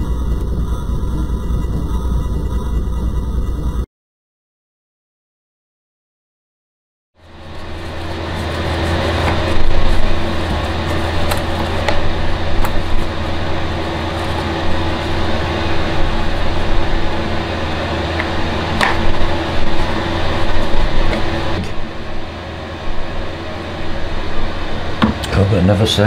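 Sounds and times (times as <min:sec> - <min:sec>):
motor or fan humming: 0:00.0 - 0:03.9, 0:07.2 - 0:26.0.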